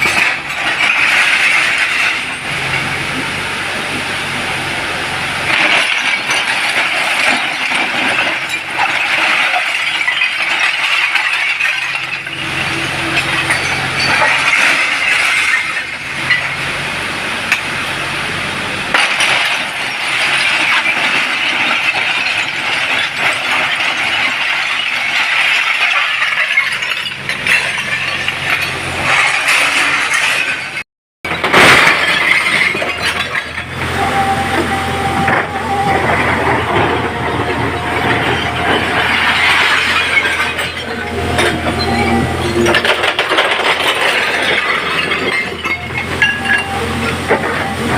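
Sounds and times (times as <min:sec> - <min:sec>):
stone and steel clattering: 0:00.0 - 0:03.3, 0:05.4 - 0:47.9
diesel engine running: 0:00.0 - 0:47.9.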